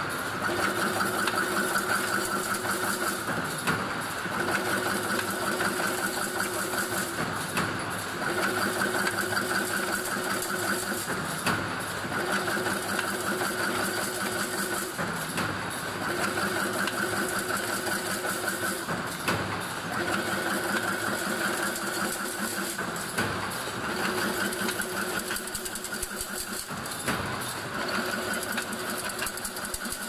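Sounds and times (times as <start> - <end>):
fence weaving machine humming: 0.0 - 30.0.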